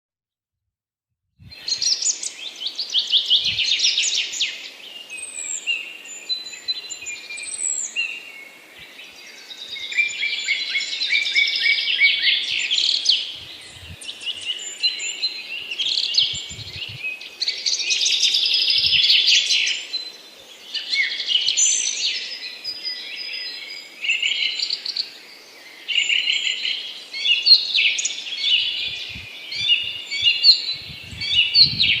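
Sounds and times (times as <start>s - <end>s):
small birds chirping: 1.4s - 32.0s.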